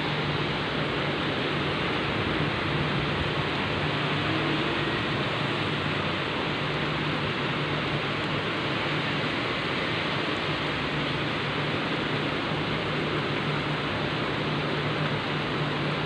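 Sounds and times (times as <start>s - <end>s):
heavy rain hissing: 0.0s - 16.0s
low steady hum: 0.0s - 16.0s.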